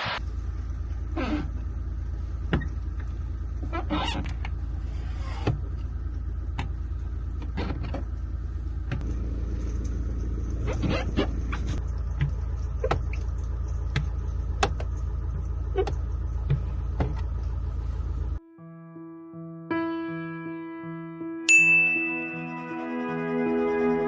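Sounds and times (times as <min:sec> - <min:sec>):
campervan engine drone: 0:00.0 - 0:18.4, 0:22.1 - 0:24.0.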